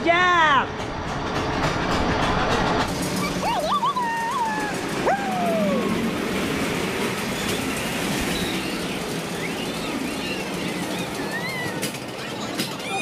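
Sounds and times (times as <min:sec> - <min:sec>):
amusement ride in motion: 0:00.0 - 0:13.0.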